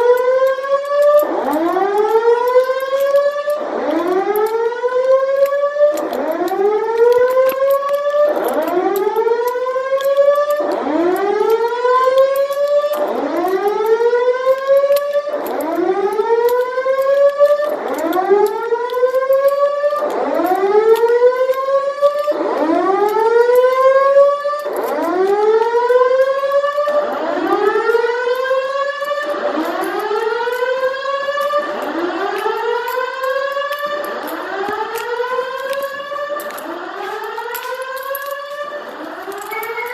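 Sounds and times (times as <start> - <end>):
fire alarm whoop siren: 0.0 - 39.9.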